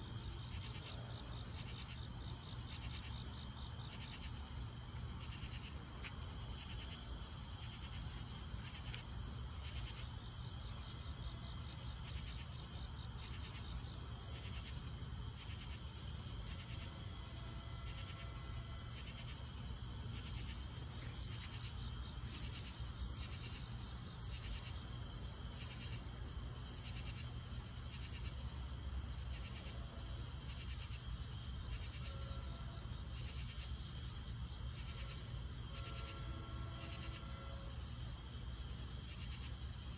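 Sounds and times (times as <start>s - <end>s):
insects trilling: 0.0s - 39.9s
pulsing insect chirp: 0.0s - 39.9s.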